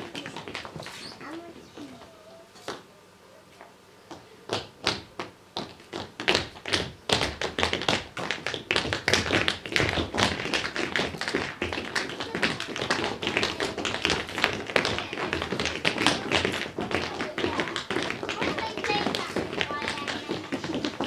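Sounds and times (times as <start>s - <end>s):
tap shoes on hard floor: 0.0s - 1.4s, 4.1s - 21.0s.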